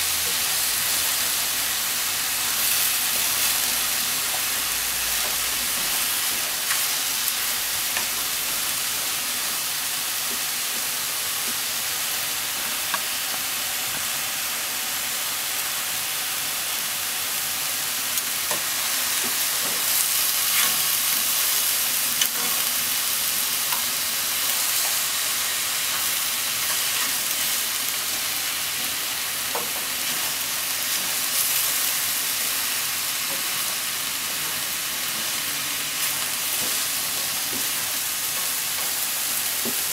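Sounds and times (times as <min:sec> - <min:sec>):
vegetables sizzling in a frying pan: 0:00.0 - 0:39.9.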